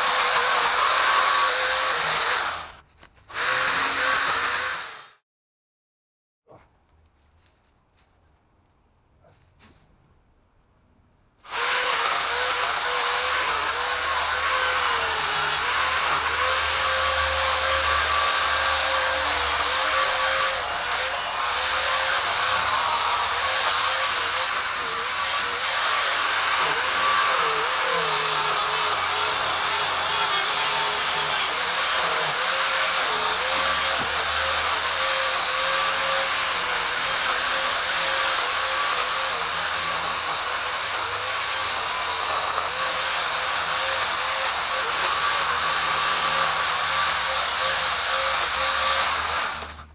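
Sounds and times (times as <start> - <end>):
pole saw motor whining: 0.0 - 5.2, 11.5 - 49.9.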